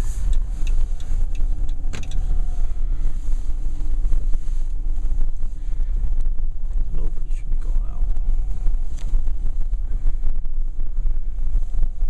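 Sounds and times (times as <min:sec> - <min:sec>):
car driving rumble from cabin: 0:00.0 - 0:12.0
faint steady hum: 0:00.0 - 0:12.0.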